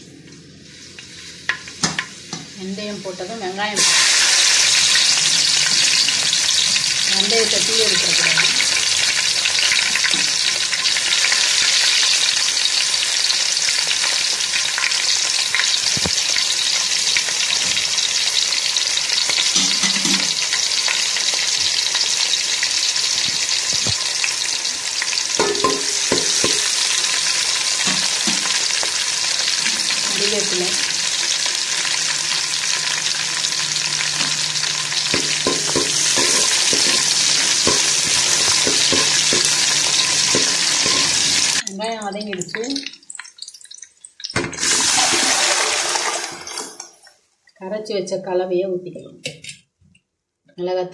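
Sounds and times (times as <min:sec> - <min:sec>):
onions sizzling in hot oil: 0:00.0 - 0:47.1.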